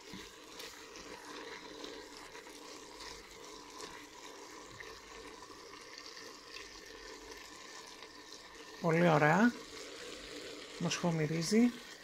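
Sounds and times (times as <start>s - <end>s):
food sizzling and bubbling in a pot: 0.0s - 12.0s
wooden spoon stirring: 0.0s - 12.0s.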